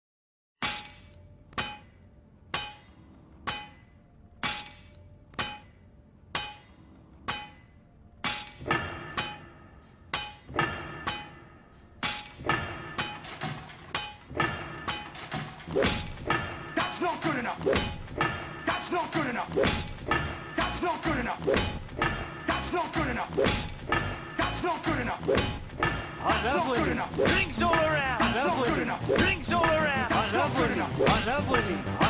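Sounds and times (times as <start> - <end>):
hammer striking metal on anvil: 0.6 - 31.6.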